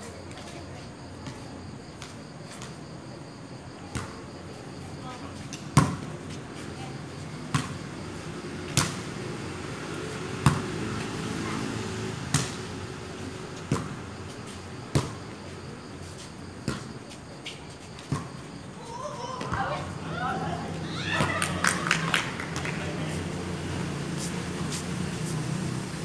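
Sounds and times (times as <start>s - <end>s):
background noise: 0.0s - 26.0s.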